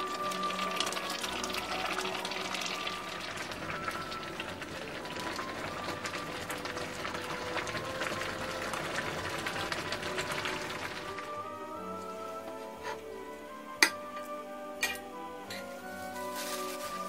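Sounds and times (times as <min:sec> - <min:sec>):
water boiling and bubbling: 0:00.0 - 0:17.0.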